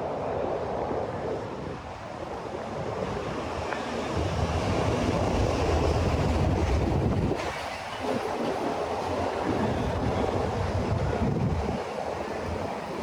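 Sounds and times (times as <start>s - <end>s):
city street noise: 1.5s - 13.0s.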